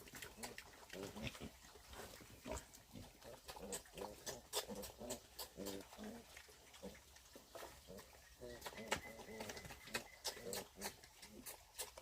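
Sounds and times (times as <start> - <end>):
pigs grunting: 0.0 - 7.1, 7.7 - 12.0.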